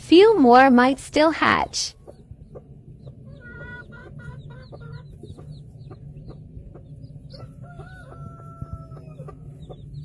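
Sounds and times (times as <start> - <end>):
low steady hum: 0.0 - 10.0
chicks peeping: 1.6 - 10.0.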